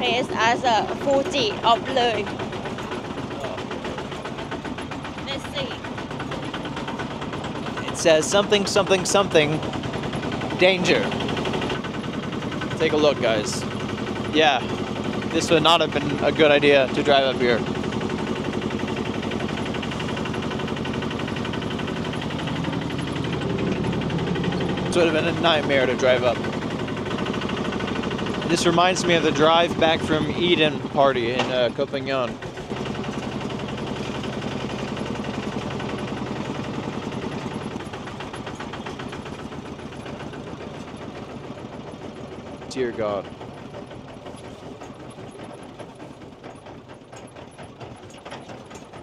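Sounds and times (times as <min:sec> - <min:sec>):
tractor engine running under load: 0:00.0 - 0:49.0.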